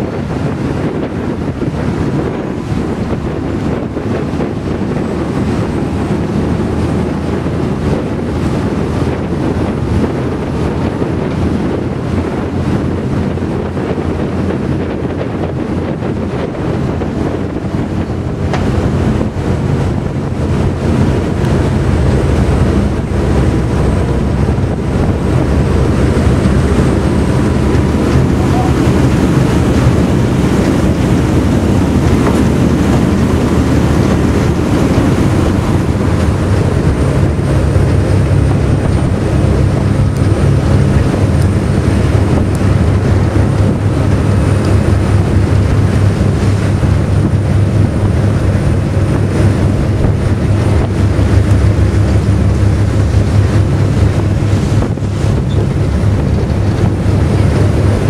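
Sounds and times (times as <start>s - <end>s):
ferry engines droning: 0.0s - 58.0s
water rushing along hull: 0.0s - 58.0s
wind buffeting microphone: 0.0s - 58.0s.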